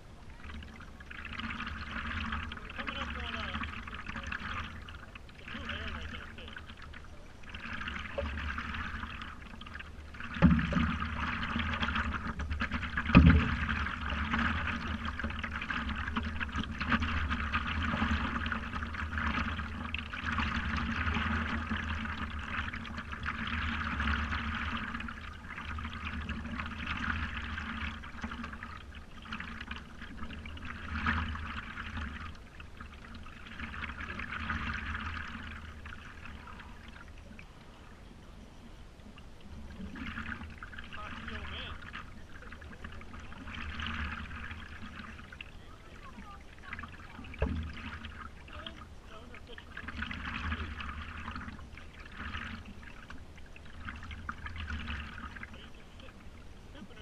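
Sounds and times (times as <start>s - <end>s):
water gurgling against paddleboard: 0.0s - 57.0s.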